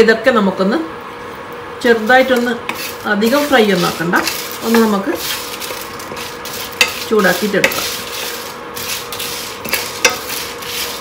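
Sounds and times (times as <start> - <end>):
light sizzle: 1.2 - 11.0
wooden spatula scraping a pan: 2.2 - 11.0.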